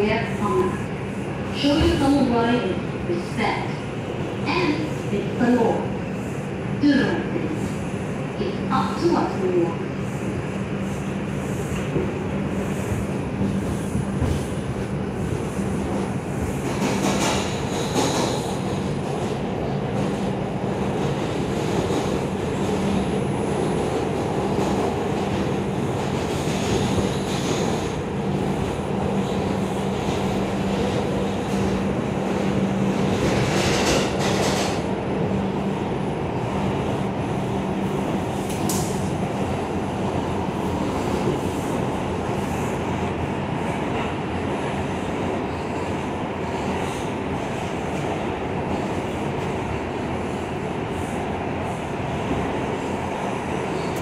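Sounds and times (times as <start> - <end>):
subway wheels rumbling on rail: 0.0 - 54.0.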